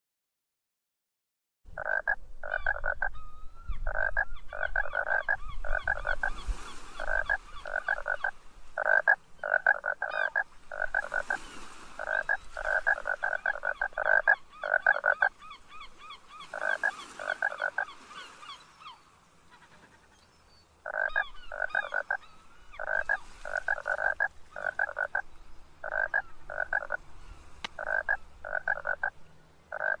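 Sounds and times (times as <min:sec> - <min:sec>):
frogs croaking: 0:01.7 - 0:18.5, 0:20.8 - 0:30.0.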